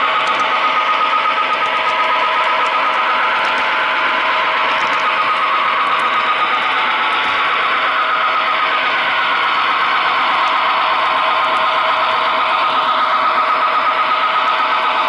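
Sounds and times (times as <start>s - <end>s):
model train motor whine: 0.0s - 15.0s
wheels rolling on rail: 0.0s - 15.0s.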